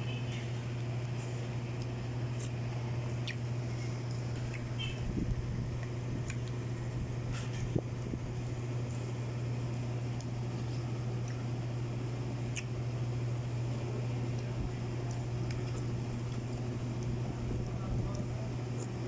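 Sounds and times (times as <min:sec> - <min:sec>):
air conditioner droning: 0:00.0 - 0:19.0.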